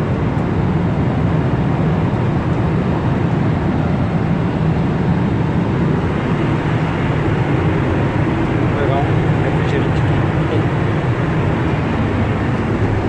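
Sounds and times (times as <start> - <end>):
airplane cabin noise: 0.0 - 13.0.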